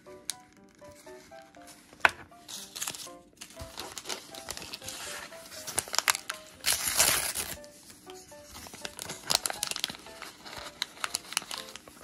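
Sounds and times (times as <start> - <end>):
quiet background music: 0.0 - 12.0
plastic wrapping crinkling: 0.4 - 12.0
plastic tearing: 1.5 - 7.7, 8.4 - 12.0.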